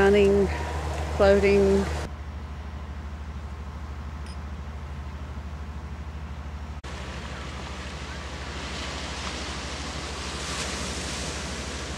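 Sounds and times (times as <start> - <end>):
constant low hum: 0.0 - 11.9
steady rushing outdoor noise: 0.0 - 11.9.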